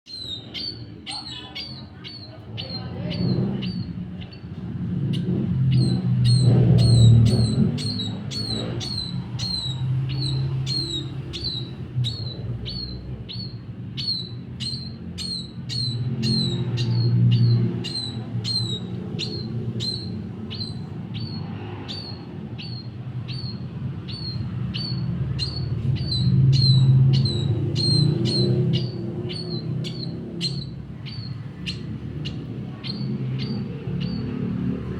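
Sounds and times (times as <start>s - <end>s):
small bird chirping: 0.1s - 34.9s.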